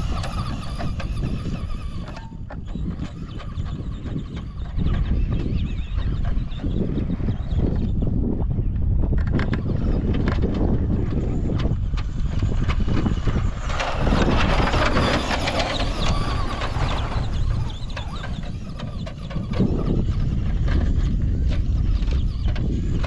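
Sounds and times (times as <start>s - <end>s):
crackling grit: 0.0s - 23.0s
rc truck rumbling over dirt: 0.0s - 23.0s.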